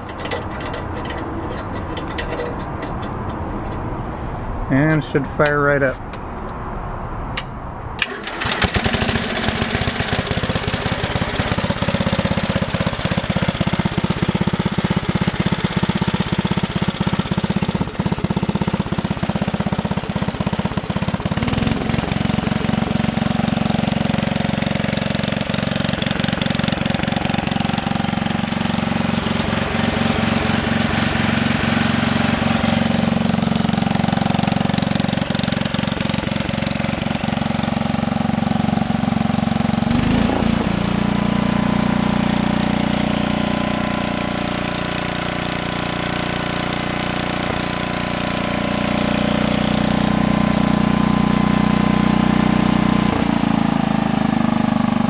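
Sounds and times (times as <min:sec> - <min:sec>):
garden tractor engine running: 0:00.0 - 0:06.2, 0:07.4 - 0:55.0.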